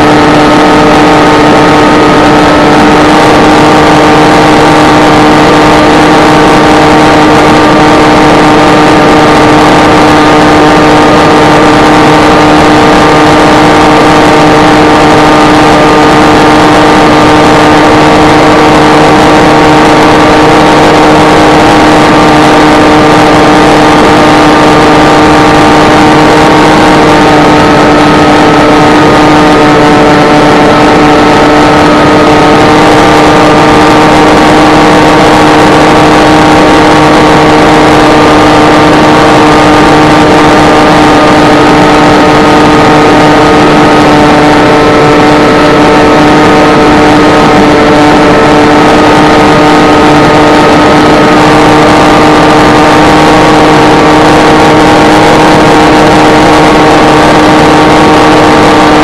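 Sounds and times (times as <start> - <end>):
electric motor propeller buzz: 0.0 - 59.0.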